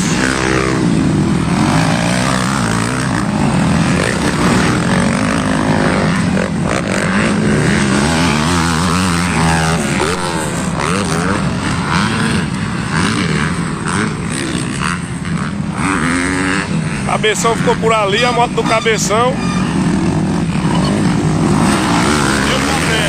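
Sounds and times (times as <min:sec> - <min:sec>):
motocross bike engines revving: 0:00.0 - 0:23.0
motorbike passing close by: 0:00.0 - 0:23.0.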